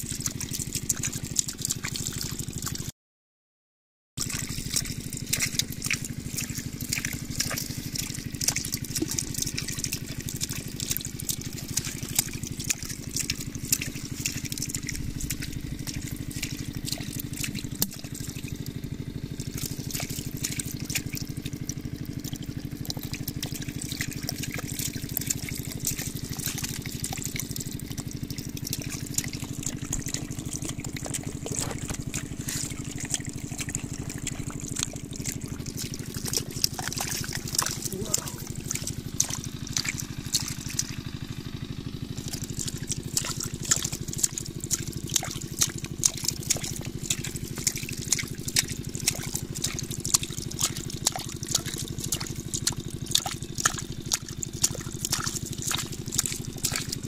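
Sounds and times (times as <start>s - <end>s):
water drips: 0.0s - 2.9s, 4.2s - 57.0s
water trickling and splashing: 0.0s - 2.9s, 4.2s - 57.0s
low hum: 4.2s - 57.0s.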